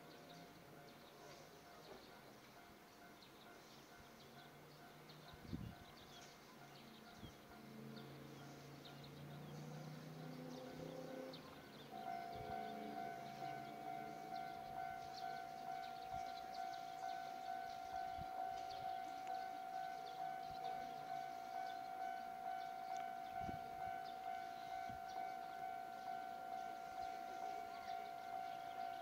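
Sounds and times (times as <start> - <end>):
pulsing railway warning alarm: 0.0 - 29.0.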